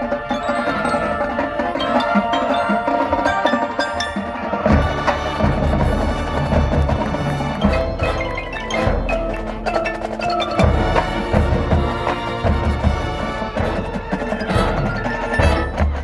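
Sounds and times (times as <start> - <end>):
drums: 0.0 - 16.0
mallet percussion: 0.0 - 16.0.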